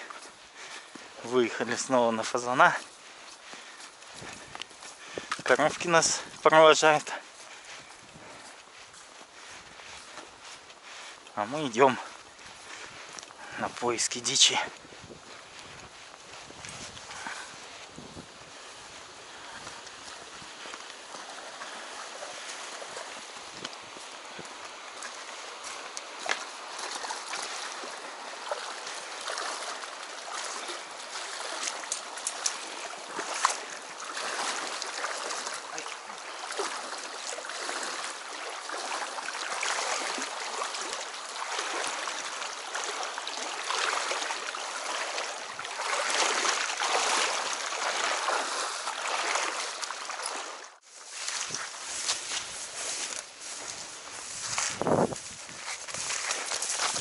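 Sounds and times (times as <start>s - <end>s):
footsteps through dry grass: 0.0s - 57.0s.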